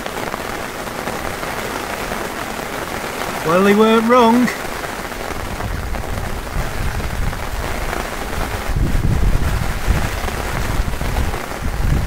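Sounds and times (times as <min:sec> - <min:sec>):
heavy rain pouring onto a lake: 0:00.0 - 0:12.0.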